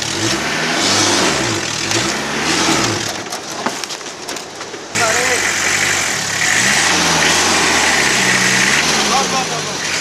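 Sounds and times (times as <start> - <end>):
pickup truck engine revving: 0.0 - 3.3, 4.9 - 10.0.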